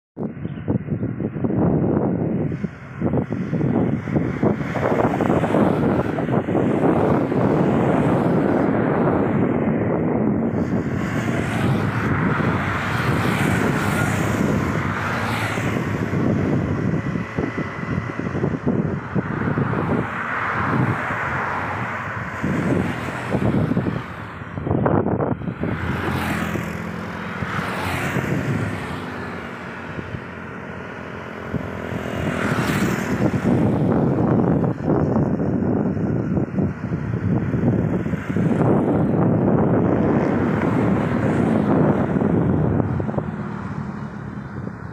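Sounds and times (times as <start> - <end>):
cars and motorcycles passing: 0.2 - 44.9.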